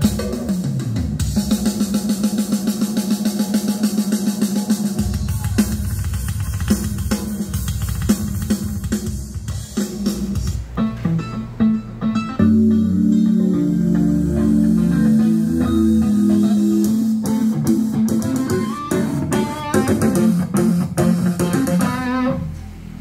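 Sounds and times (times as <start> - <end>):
drum kit beat over loudspeakers: 0.0 - 12.6, 13.3 - 22.5.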